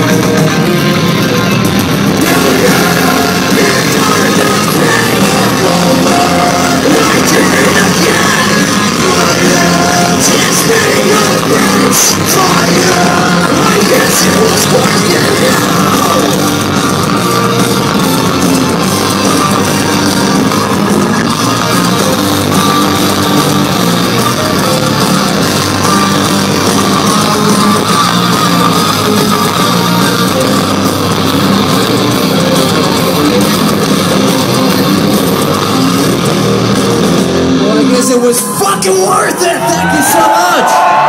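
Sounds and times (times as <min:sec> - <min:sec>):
distorted electric guitars: 0:00.0 - 0:41.0
heavy metal band playing live: 0:00.0 - 0:41.0.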